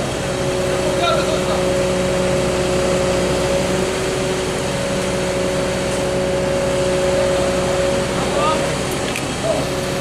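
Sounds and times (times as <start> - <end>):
fire engine droning: 0.0 - 10.0.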